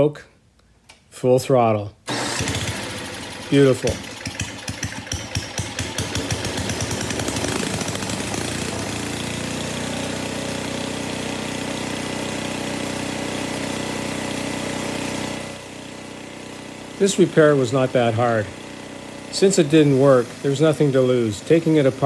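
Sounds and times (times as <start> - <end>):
snowblower engine running: 2.1 - 22.0.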